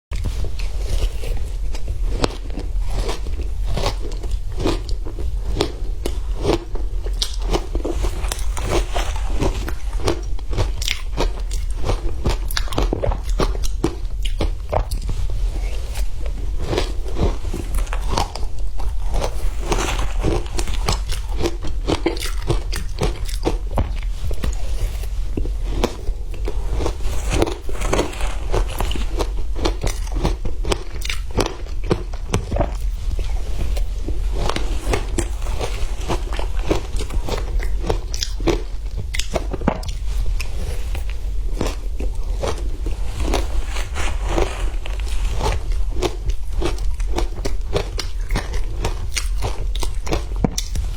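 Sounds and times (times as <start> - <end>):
person crunching ice: 0.6 - 50.9.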